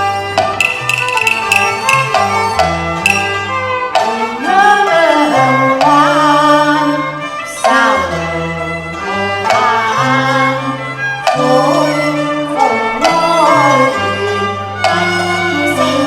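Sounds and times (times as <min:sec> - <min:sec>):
bowed string melody with vibrato: 0:00.0 - 0:16.0.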